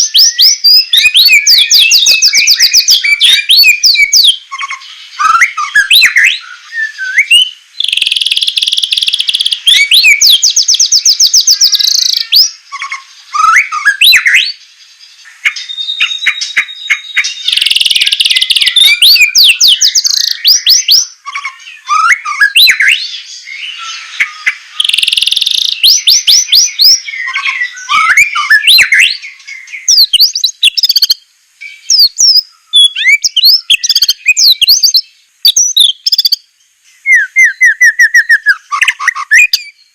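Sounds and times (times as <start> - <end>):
bird singing whistled phrases: 0.0 - 14.6, 15.4 - 36.4, 37.0 - 39.9.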